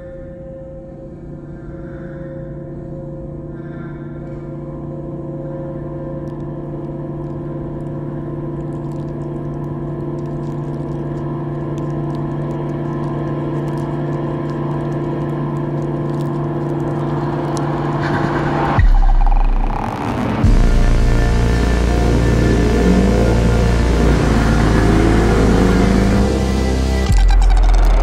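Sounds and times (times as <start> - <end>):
droning soundtrack chord: 0.0 - 28.0.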